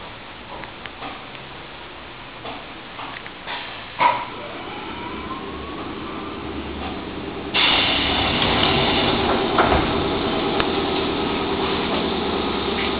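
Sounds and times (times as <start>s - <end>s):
electric train noise: 0.0s - 12.9s.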